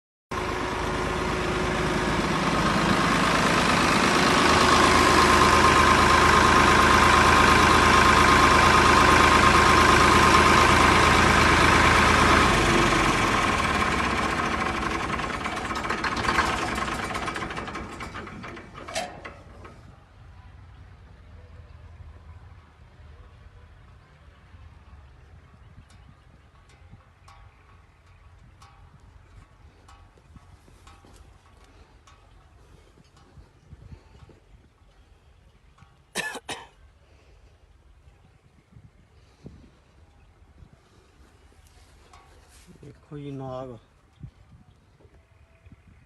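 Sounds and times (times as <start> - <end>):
tractor engine running: 0.3 - 46.0.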